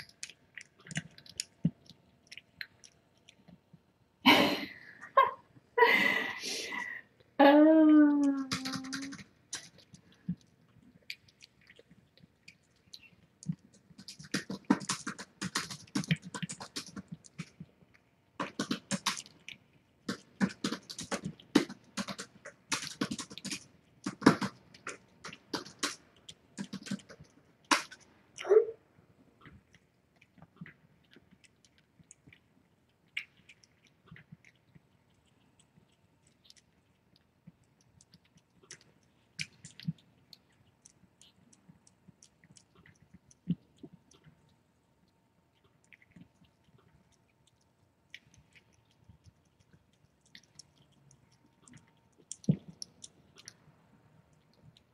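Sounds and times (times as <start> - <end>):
cat chewing and lapping food: 0.0 - 7.4, 8.1 - 54.9.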